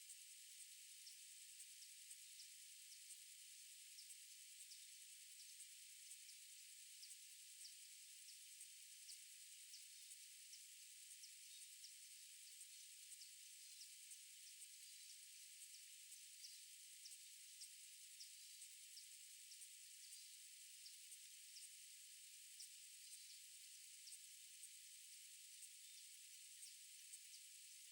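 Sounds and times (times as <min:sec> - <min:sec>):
faint steady hiss: 0:00.0 - 0:27.9.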